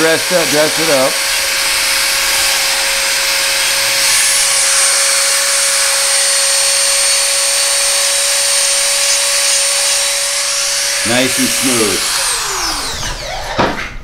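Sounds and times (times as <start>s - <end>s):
rotary tool whining: 0.0s - 14.0s.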